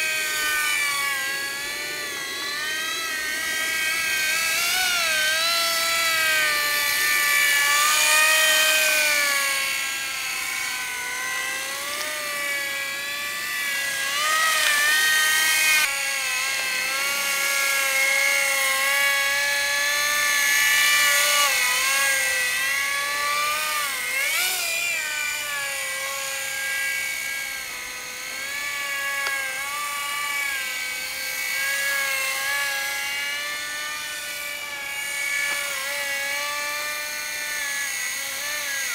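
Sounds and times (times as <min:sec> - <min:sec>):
model helicopter rotor whine: 0:00.0 - 0:38.9.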